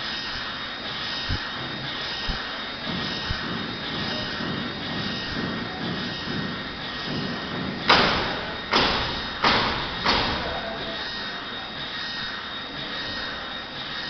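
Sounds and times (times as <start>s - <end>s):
printer whirring: 0.0s - 14.0s.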